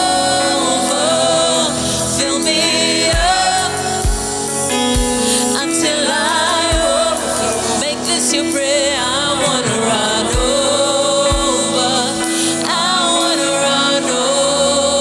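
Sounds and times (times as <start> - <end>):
gospel singing over held chords: 0.0 - 15.0.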